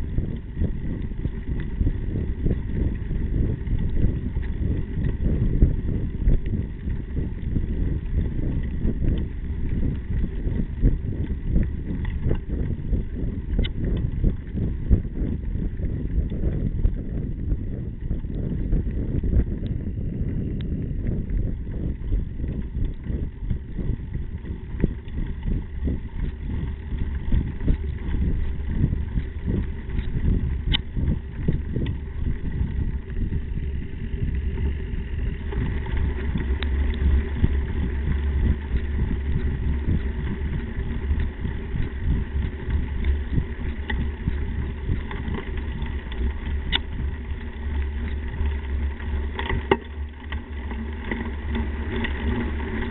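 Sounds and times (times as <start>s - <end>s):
bike rattling: 0.0s - 52.9s
bike tyre noise on dirt: 0.0s - 52.9s
wind buffeting: 0.0s - 52.9s.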